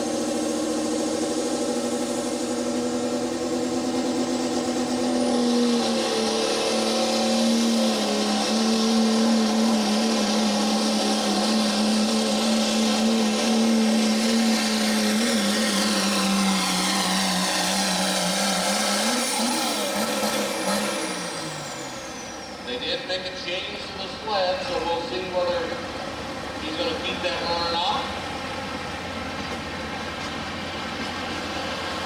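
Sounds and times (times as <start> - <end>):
diesel engine at full throttle: 0.0 - 32.0.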